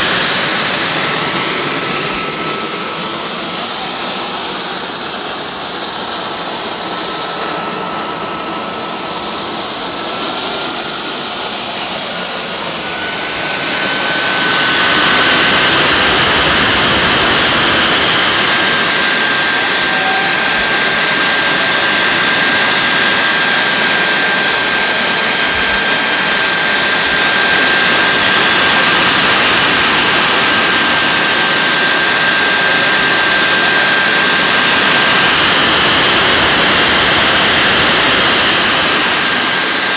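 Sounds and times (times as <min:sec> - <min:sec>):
high turbine whine: 0:00.0 - 0:39.9
jet engine roaring: 0:00.0 - 0:39.9.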